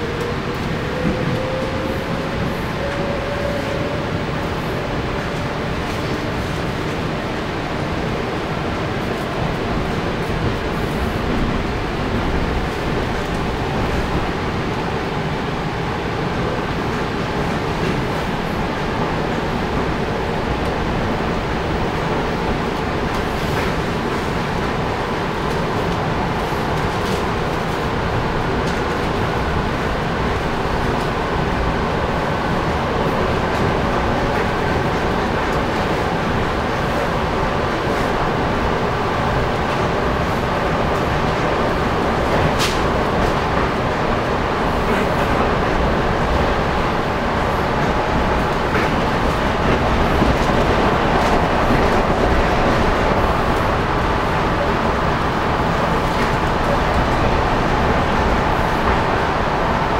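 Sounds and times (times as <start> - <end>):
train rumble inside carriage: 0.0 - 59.9.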